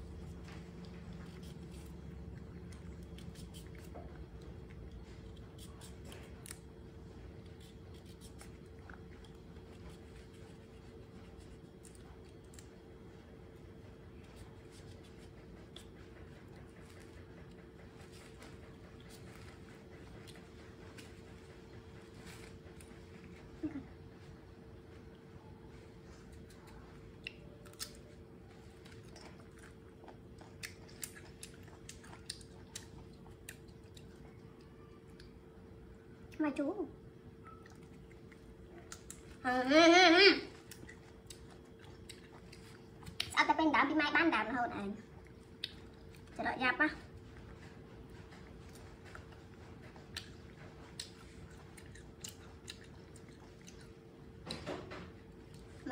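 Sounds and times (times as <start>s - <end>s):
monkey chewing crunchy fruit: 0.0s - 55.9s
steady low hum: 0.0s - 55.9s.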